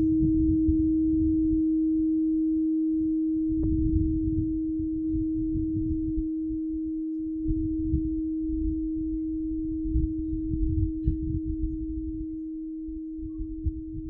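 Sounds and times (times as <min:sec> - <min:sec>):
low uneven rumble: 0:00.0 - 0:02.2, 0:03.2 - 0:14.0
singing bowl ringing: 0:00.0 - 0:14.0.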